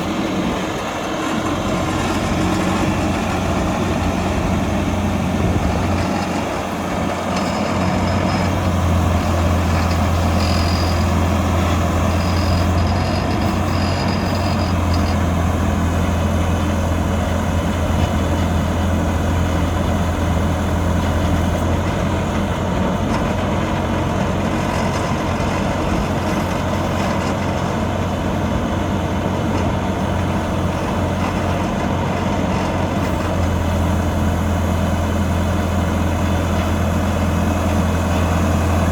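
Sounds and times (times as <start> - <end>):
diesel engine running with low hum: 0.0 - 38.9.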